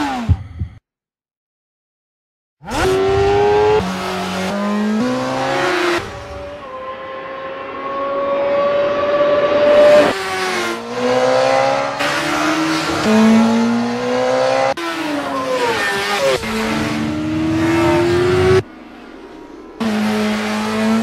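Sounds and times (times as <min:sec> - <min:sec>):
motorcycle engine revving: 0:02.7 - 0:21.0.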